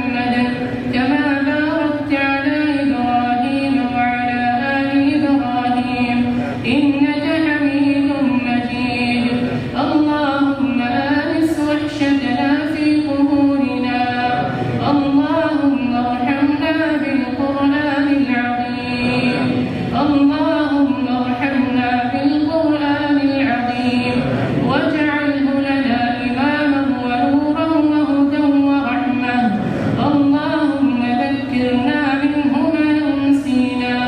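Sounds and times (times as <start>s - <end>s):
man chanting through loudspeakers: 0.0s - 34.0s.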